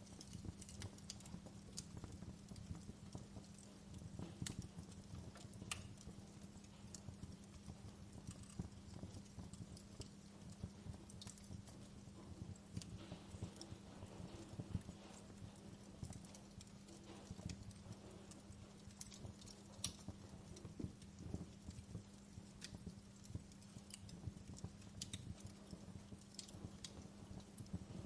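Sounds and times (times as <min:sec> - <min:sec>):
faint low hum: 0:00.0 - 0:28.0
wood fire crackling: 0:00.0 - 0:28.0.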